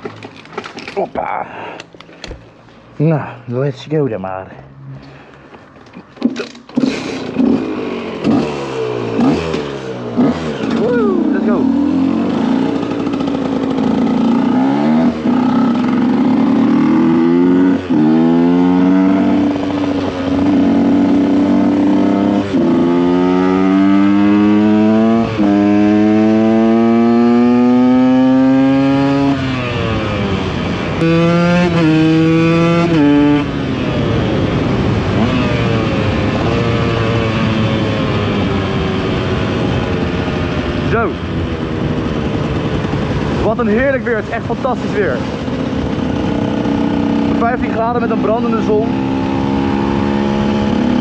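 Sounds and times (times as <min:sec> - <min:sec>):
two-stroke engine accelerating: 0:06.2 - 0:51.0.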